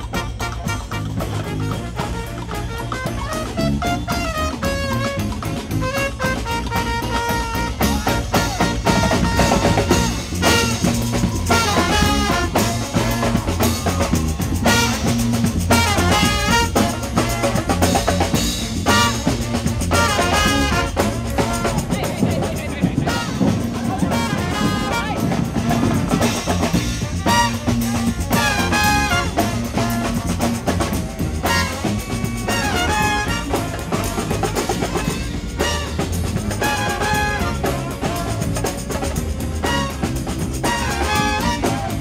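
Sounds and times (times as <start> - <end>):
brass band playing: 0.0 - 42.0.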